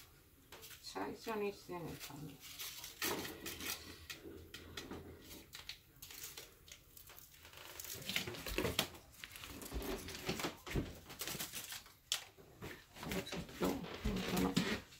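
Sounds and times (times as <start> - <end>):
rustling and crinkling: 0.0 - 14.9.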